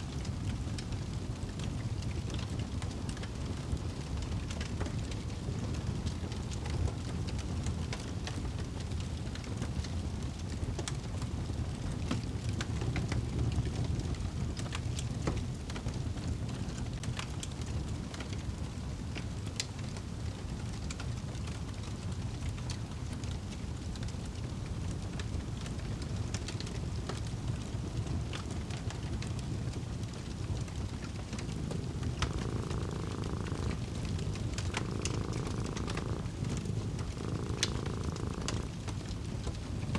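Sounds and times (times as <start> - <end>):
fire crackling and popping: 0.1 - 39.9.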